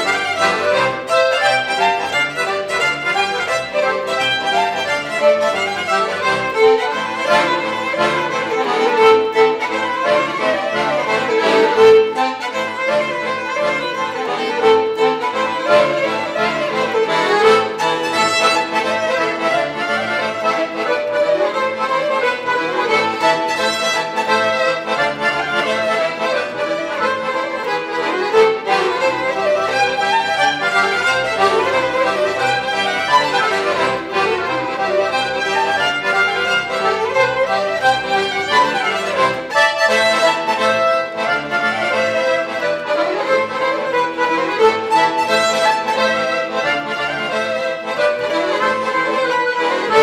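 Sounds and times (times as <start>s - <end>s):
accordion: 0.0s - 50.0s
violin: 0.0s - 50.0s.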